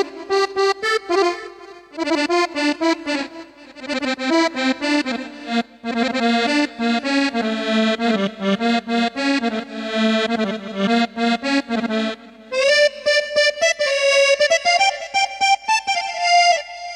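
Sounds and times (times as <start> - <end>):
keyboard playing reed-like melody: 0.0 - 16.9.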